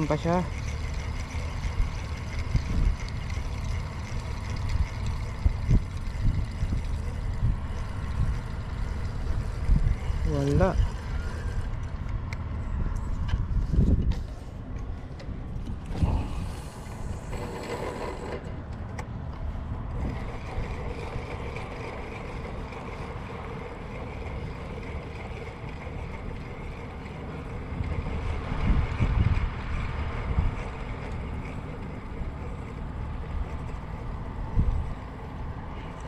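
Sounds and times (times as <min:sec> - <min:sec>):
wind buffeting microphone: 0:00.0 - 0:18.4, 0:19.5 - 0:36.0.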